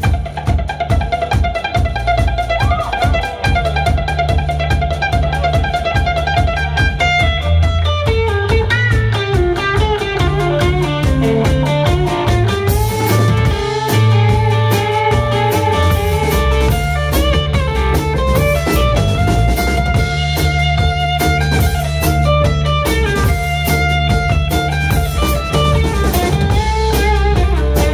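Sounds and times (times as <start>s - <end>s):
electric guitar lead line: 0.0s - 27.9s
rock band playing: 0.0s - 27.9s.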